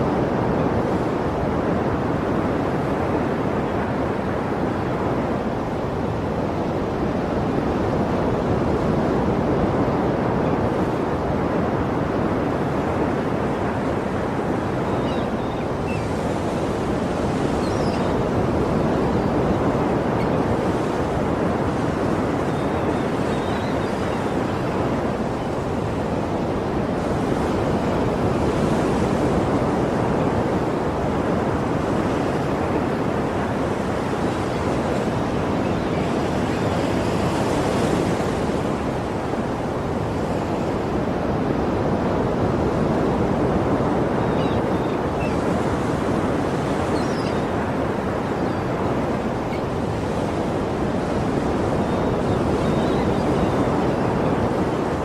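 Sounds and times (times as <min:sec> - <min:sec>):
sea waves washing on shore: 0:00.0 - 0:55.0.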